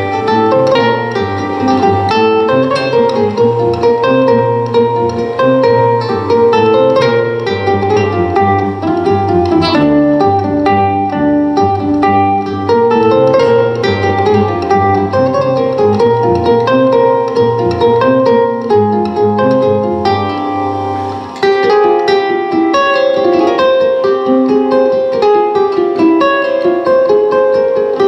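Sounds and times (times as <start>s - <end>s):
plucked string instrument: 0.0s - 28.0s.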